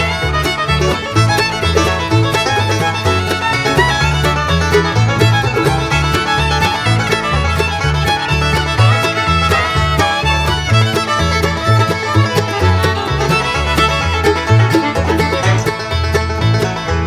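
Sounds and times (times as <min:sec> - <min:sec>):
bluegrass music with fiddle and banjo: 0:00.0 - 0:17.0.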